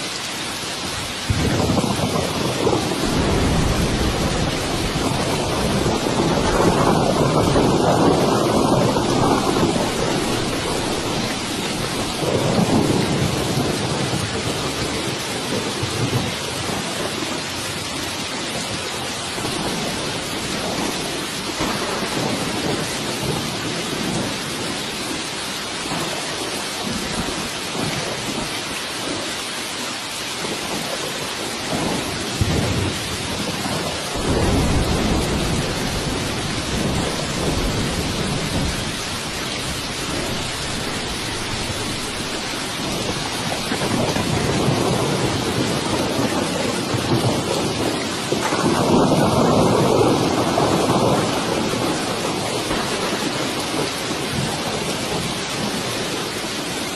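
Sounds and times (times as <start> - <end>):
heavy rain: 0.0 - 56.9
rolling thunder: 0.8 - 29.2, 30.4 - 56.9.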